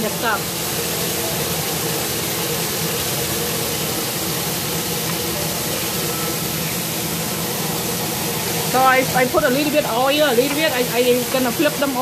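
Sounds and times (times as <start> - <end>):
exhaust fan rushing and humming: 0.0 - 12.0
shrimp frying in oil: 0.0 - 12.0.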